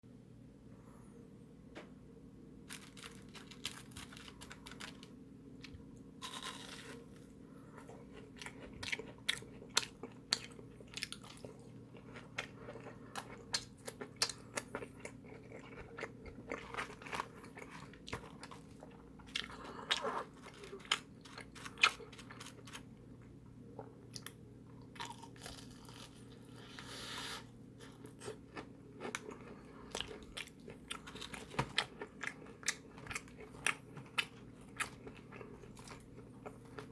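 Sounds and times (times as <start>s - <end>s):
crunching fried food: 2.6s - 23.0s, 24.2s - 26.5s, 27.8s - 36.9s.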